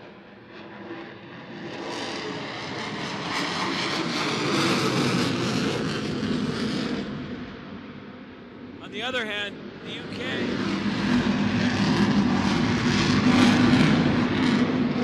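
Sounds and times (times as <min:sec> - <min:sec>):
jet engines flying by: 0:00.0 - 0:15.0.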